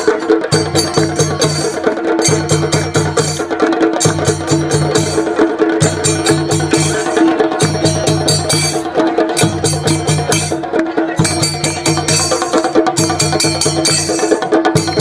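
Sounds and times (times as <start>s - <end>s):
drum ensemble rapid strokes: 0.0s - 15.0s.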